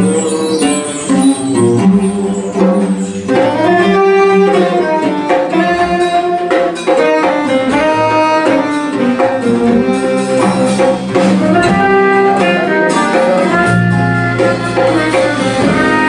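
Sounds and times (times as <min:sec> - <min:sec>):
horns playing held notes: 0:00.0 - 0:16.0
jazz fusion band playing: 0:00.0 - 0:16.0.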